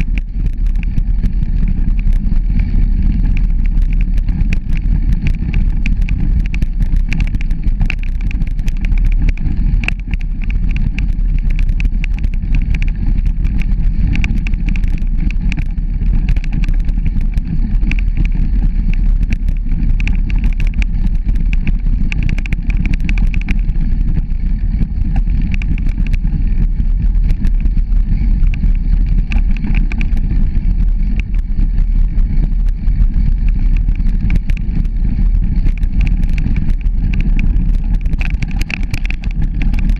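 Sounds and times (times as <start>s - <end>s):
bicycle clicks and rattles: 0.0s - 39.9s
bicycle tyres rumbling on dirt: 0.0s - 39.9s.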